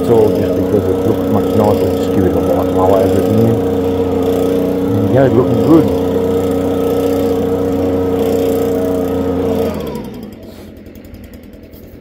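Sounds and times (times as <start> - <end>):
leaf blower running: 0.0 - 12.0
leaf blower winding down: 0.0 - 12.0.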